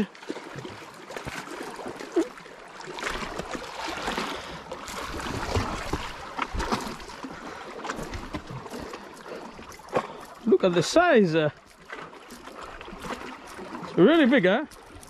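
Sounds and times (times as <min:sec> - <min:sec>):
sea water splashing on rocks: 0:00.0 - 0:15.0.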